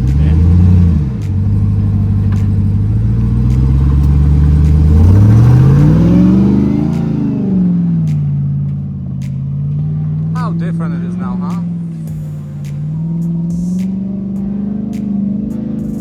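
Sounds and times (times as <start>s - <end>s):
engine running and revving: 0.0s - 16.0s.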